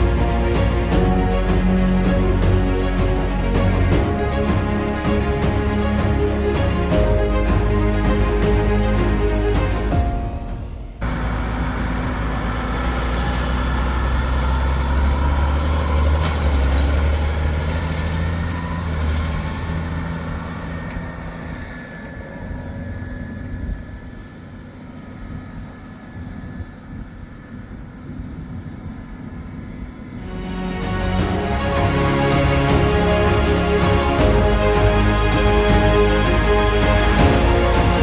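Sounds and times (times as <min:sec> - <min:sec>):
heavy farm vehicle engine droning: 0:00.0 - 0:38.0.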